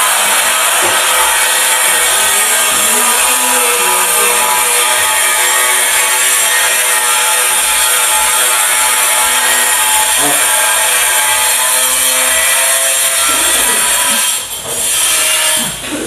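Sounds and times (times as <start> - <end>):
power tool grinding hiss: 0.0 - 16.0.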